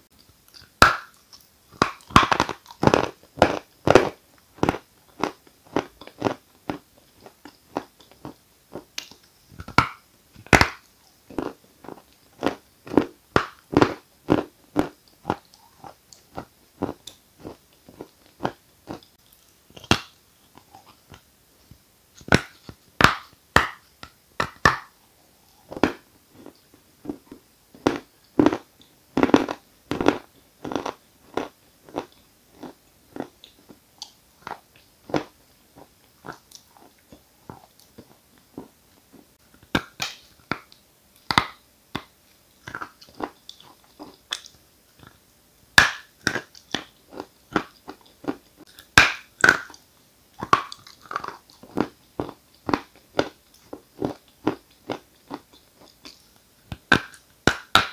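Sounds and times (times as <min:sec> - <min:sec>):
chalk crunching while chewed: 0:00.2 - 0:21.3, 0:25.5 - 0:45.2, 0:45.8 - 0:49.8, 0:50.4 - 0:57.9.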